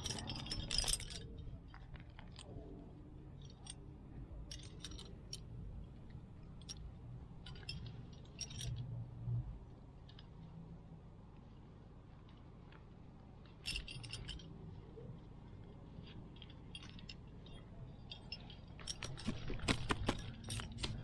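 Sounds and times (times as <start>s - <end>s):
metal climbing gear clinking: 0.0s - 8.9s, 12.2s - 21.0s.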